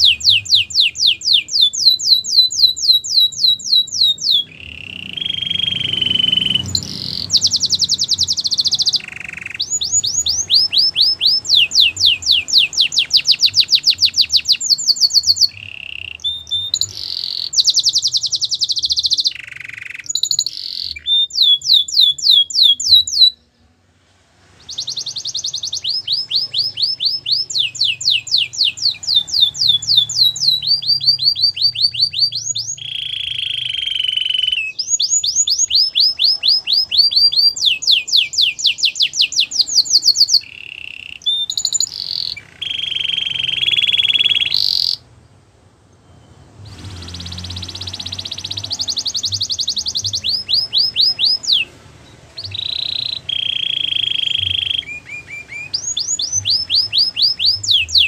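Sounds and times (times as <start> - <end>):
canary singing trills: 0.0 - 23.8, 24.4 - 58.0.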